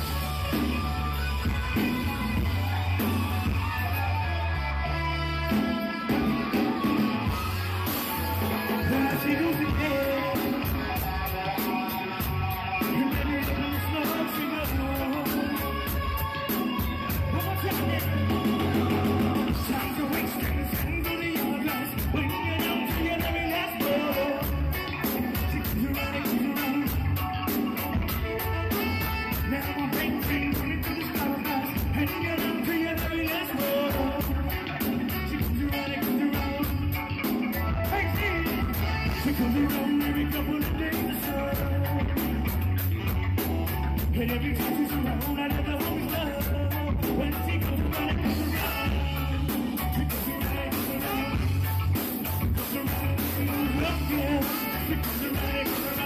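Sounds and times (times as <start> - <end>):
drum kit: 0.0 - 56.0
electric guitar: 0.0 - 56.0
keyboard: 0.0 - 56.0
lead singer singing: 0.0 - 56.0
saxophone: 0.0 - 56.0.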